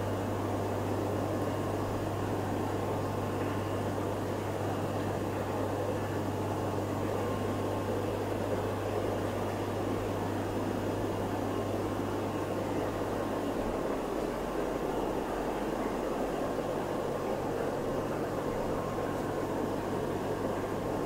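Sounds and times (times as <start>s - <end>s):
aquarium air pumps humming: 0.0s - 21.0s.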